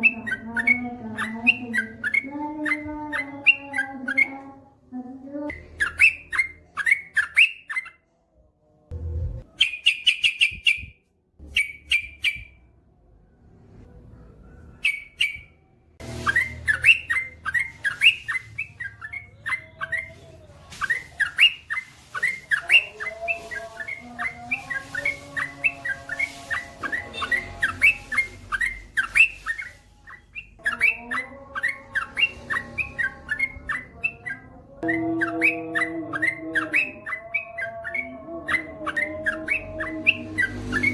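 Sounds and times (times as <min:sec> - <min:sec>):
bird chirping rapid notes: 0:00.0 - 0:04.4, 0:05.5 - 0:08.0, 0:09.1 - 0:12.7, 0:14.7 - 0:40.9.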